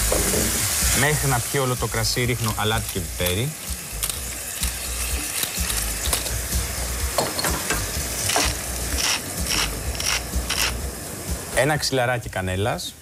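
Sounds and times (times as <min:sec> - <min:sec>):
rice sizzling in a pot: 0:00.0 - 0:12.9.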